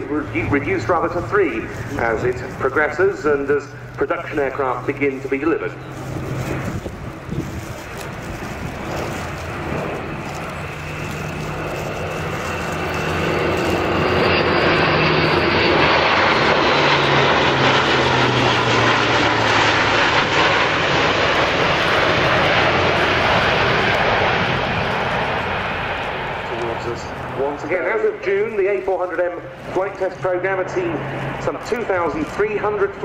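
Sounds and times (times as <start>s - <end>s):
turboprop aircraft flying past: 0.0s - 33.0s.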